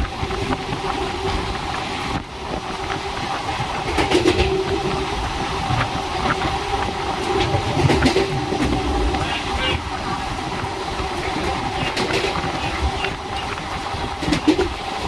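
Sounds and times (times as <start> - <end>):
train rumbling on rails: 0.0 - 15.0
wheels clacking over rail joints: 0.0 - 15.0.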